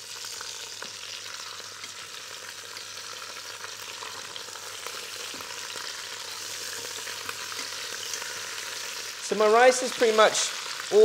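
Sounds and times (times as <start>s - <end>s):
chicken sizzling in hot fat: 0.0s - 11.0s.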